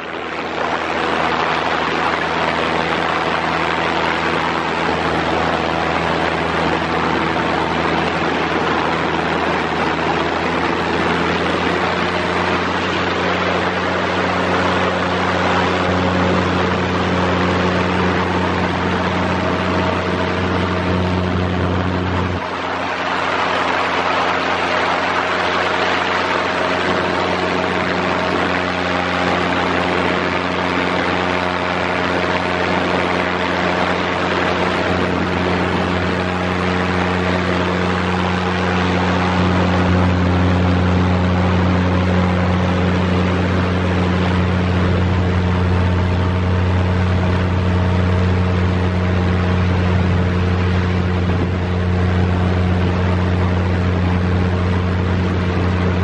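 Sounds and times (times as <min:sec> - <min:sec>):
light aircraft engine and propeller: 0:00.0 - 0:56.0
rushing air: 0:00.0 - 0:56.0.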